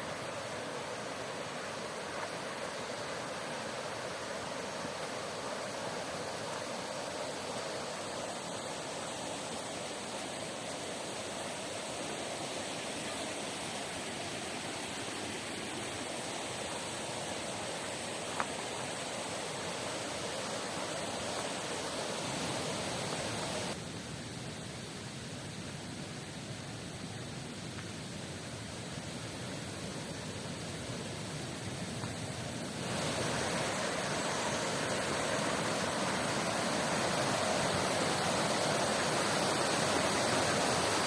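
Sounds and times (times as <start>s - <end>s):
river water rushing: 0.0s - 23.9s, 28.5s - 41.0s.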